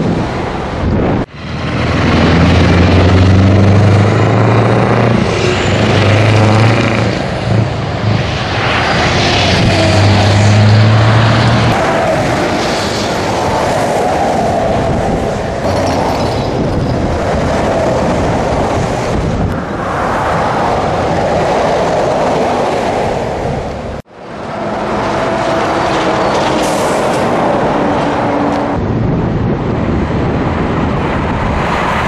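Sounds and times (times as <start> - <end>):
diesel truck engine drone: 0.0 - 32.0
road and wind rush: 0.0 - 32.0.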